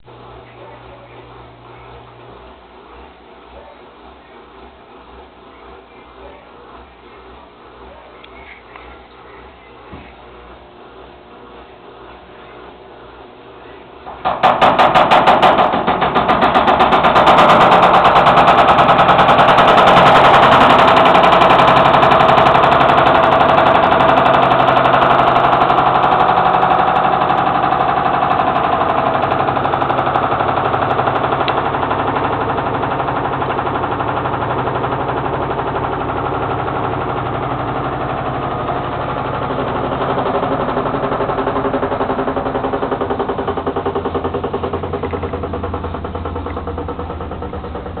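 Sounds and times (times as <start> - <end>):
washing machine running: 0.0 - 48.0.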